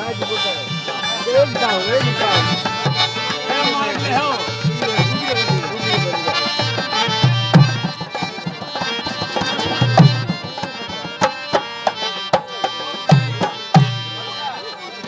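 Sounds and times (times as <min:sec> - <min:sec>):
hand drum rhythm: 0:00.0 - 0:15.0
held melodic notes: 0:00.0 - 0:15.0.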